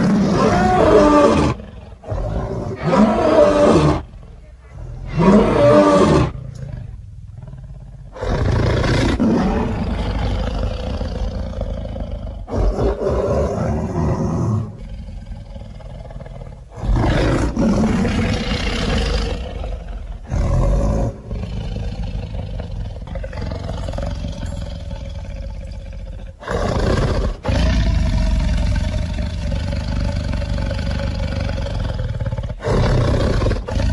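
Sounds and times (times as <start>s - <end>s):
lion growling: 0.0s - 33.9s.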